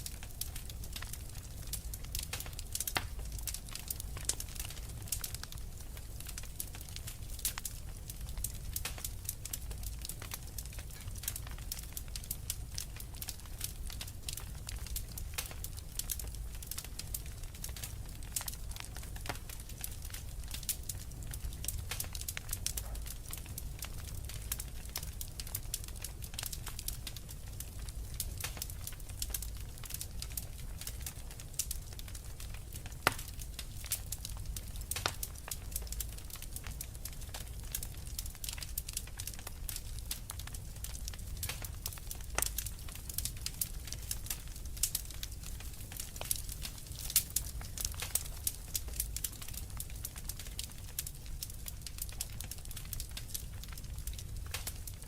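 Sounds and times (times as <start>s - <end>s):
fire pops and snaps: 0.0s - 55.0s
wood fire crackling: 0.0s - 55.0s.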